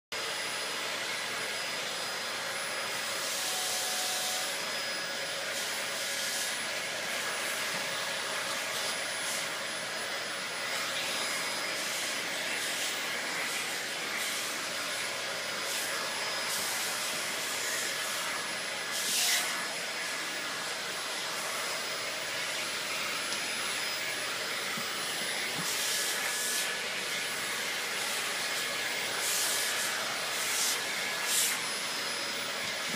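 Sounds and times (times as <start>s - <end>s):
vacuum cleaner whining: 0.2s - 32.9s.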